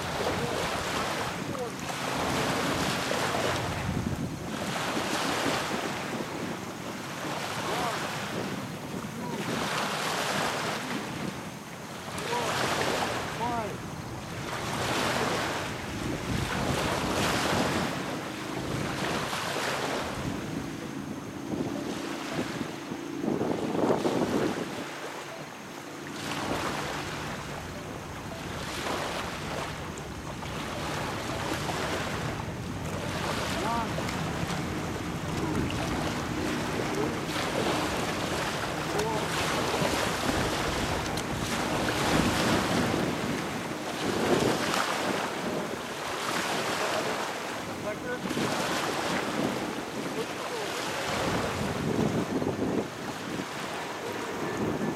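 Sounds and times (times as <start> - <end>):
small waves lapping: 0.0 - 54.9
wind on microphone: 0.0 - 54.9.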